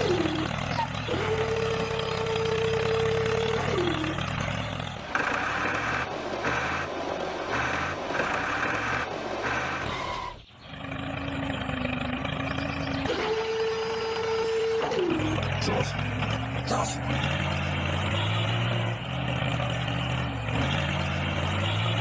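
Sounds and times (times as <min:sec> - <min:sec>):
rough mechanical rumble: 0:00.0 - 0:22.0.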